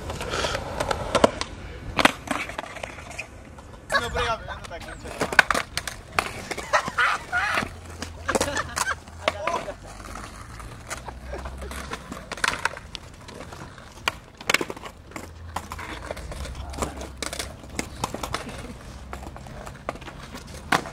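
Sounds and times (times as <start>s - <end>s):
skateboard clacks on concrete: 0.0s - 20.9s.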